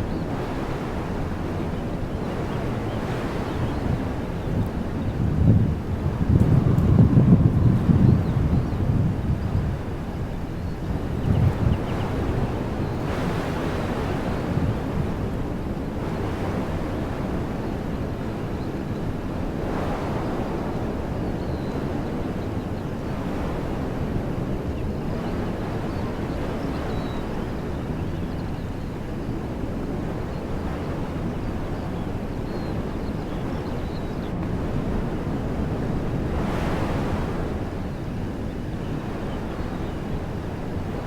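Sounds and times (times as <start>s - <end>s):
wind blowing through trees: 0.0s - 41.0s.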